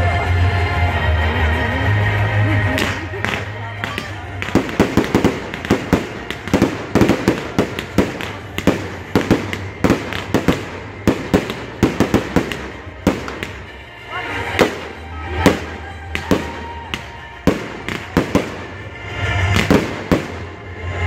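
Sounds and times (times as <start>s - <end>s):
fireworks bangs: 2.7s - 21.0s.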